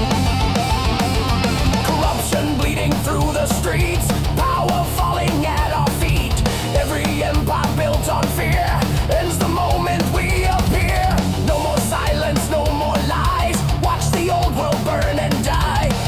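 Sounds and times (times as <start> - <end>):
thrash metal music: 0.0 - 16.0.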